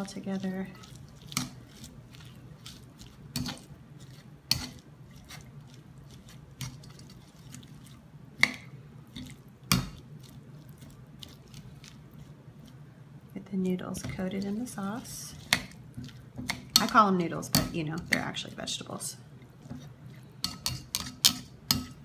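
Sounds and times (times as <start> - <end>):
wet squishing of noodles: 0.0 - 13.4, 14.0 - 17.0, 18.1 - 21.2.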